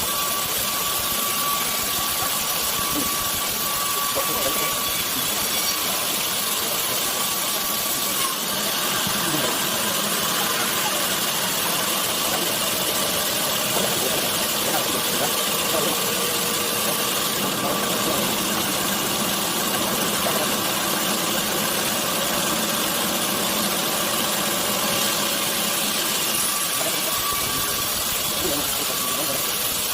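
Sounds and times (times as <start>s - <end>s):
sawmill machinery running: 0.0s - 29.9s
thin steady whine: 0.0s - 29.9s.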